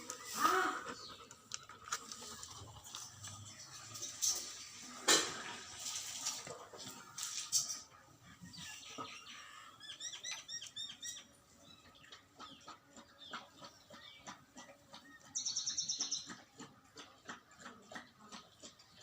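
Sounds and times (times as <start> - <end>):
small birds chirping: 0.0 - 4.8, 7.4 - 19.0.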